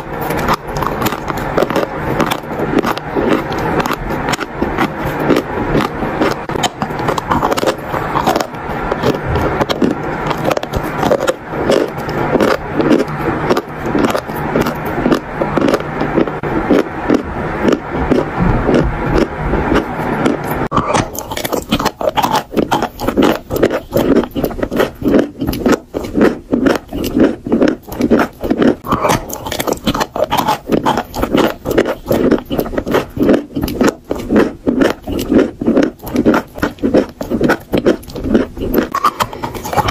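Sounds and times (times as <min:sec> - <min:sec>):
chalk crunching in mouth: 0:00.0 - 0:39.9.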